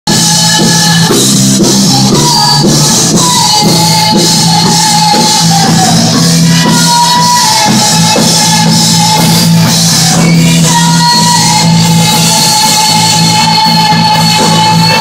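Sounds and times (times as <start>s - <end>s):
loud band music with steady beat: 0.0s - 15.0s.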